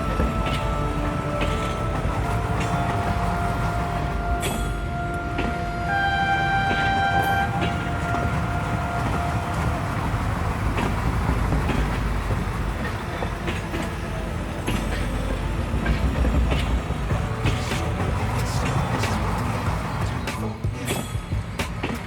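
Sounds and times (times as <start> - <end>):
train horn: 0.0 - 20.3
train clicks: 0.0 - 22.0
train rumbling: 0.0 - 22.0.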